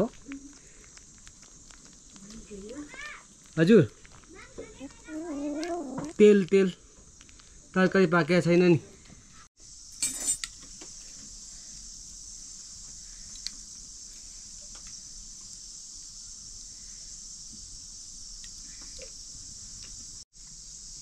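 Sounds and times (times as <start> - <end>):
insects hissing: 0.0 - 21.0.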